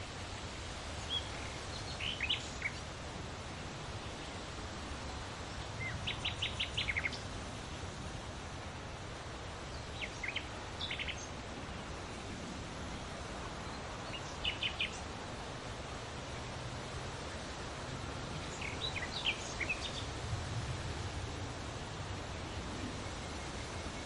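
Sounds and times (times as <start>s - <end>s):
gentle breeze hiss: 0.0s - 24.0s
songbirds chirping: 0.0s - 24.0s.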